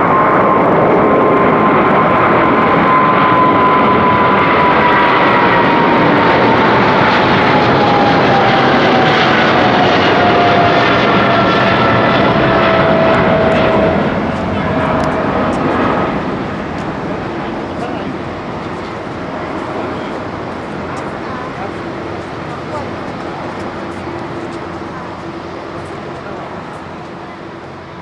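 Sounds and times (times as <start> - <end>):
jet engine roar: 0.0 - 28.0.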